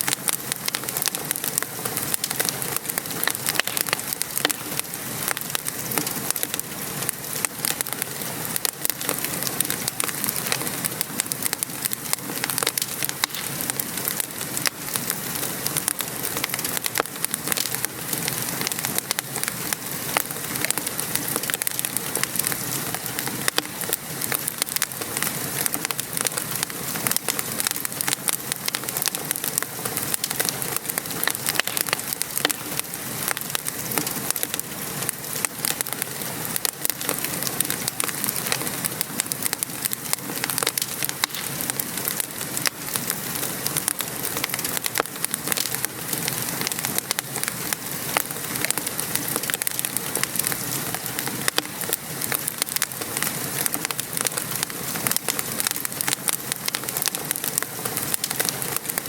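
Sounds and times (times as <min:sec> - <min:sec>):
rain hissing: 0:00.0 - 0:59.0
wood fire crackling: 0:00.0 - 0:59.0.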